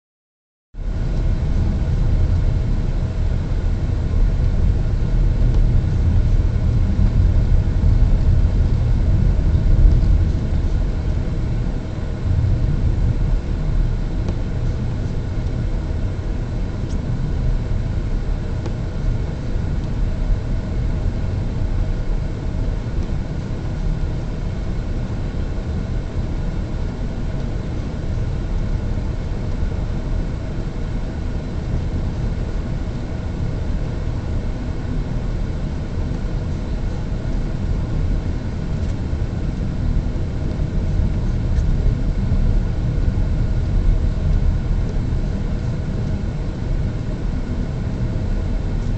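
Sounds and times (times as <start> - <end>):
car engine and tyres on snow: 0.8 - 48.9.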